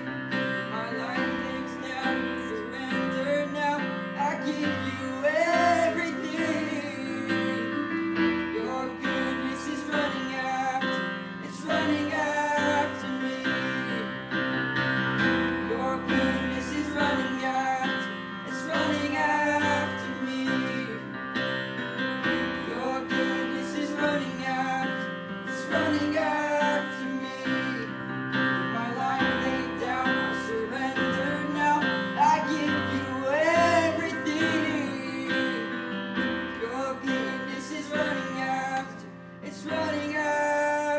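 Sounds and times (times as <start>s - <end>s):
person singing: 0.0s - 14.6s, 15.2s - 40.9s
guitar and keyboard: 0.0s - 40.9s.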